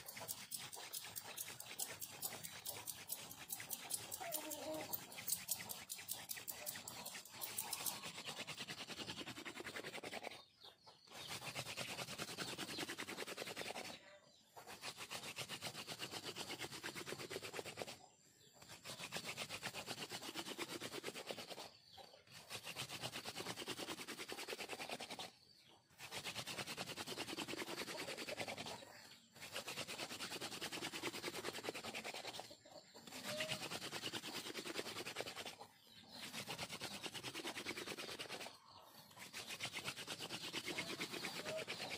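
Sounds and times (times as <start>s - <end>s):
wooden hand drill rubbing wood: 0.0s - 14.0s, 14.6s - 41.9s.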